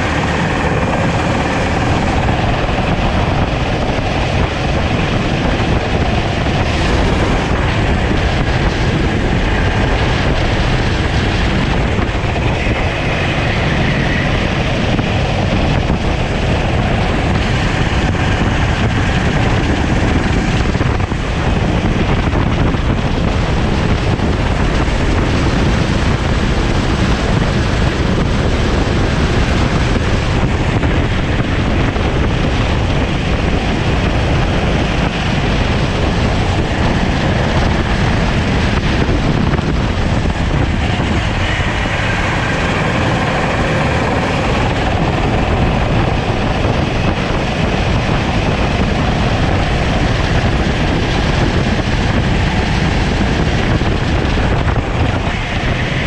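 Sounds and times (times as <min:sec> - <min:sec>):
kart engine running hard: 0:00.0 - 0:56.0
wind buffeting microphone: 0:00.0 - 0:56.0.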